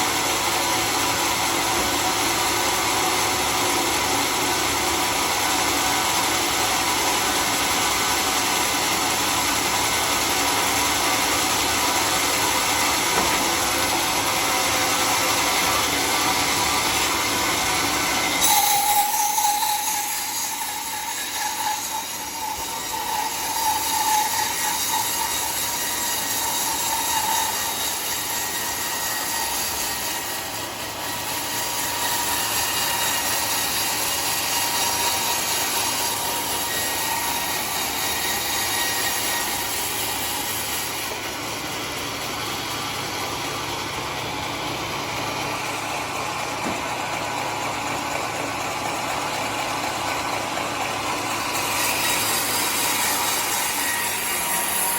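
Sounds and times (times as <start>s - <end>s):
sawmill saw cutting log: 0.0s - 54.9s.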